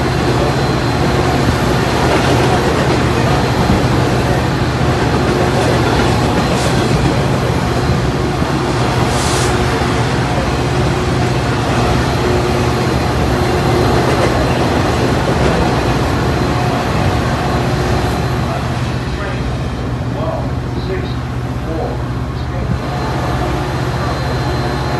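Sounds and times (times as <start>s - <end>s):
diesel locomotive engine running: 0.0s - 24.9s
freight train wheels rumbling: 0.0s - 24.9s.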